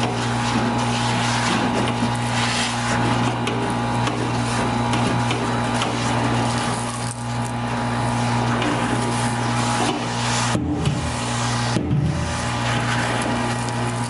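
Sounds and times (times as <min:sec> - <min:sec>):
air rushing through hose: 0:00.0 - 0:03.7, 0:05.6 - 0:14.0
industrial vacuum humming: 0:00.0 - 0:14.0.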